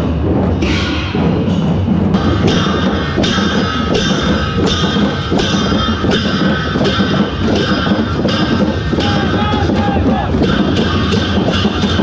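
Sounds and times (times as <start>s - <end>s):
barrel drums beating: 0.0s - 12.0s
hand cymbals clashing: 0.0s - 12.0s.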